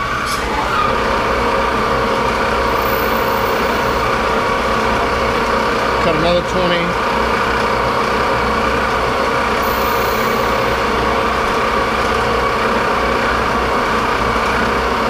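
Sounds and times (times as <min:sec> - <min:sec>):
lathe machine drone: 0:00.0 - 0:15.0.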